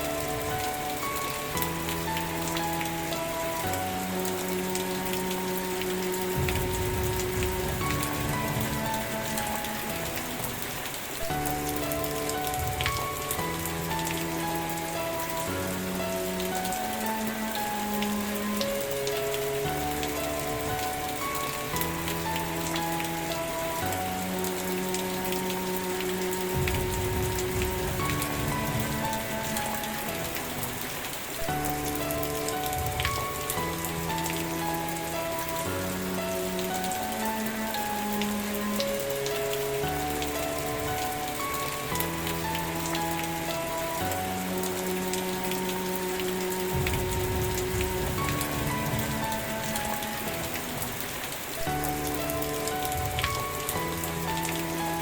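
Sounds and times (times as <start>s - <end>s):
rain drops ticking: 0.0s - 55.0s
soft music of sustained chords: 0.0s - 55.0s
steady rain: 0.0s - 55.0s.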